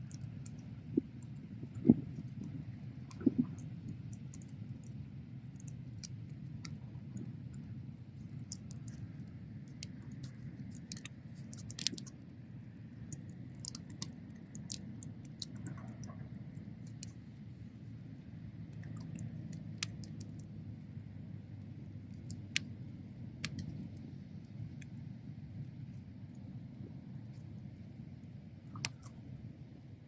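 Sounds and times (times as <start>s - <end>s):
fire crackles and pops: 0.0s - 30.0s.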